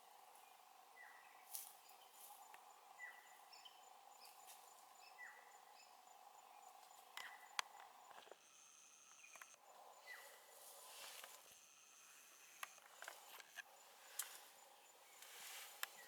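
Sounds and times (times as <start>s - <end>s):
faint high insect trill: 0.0s - 16.0s.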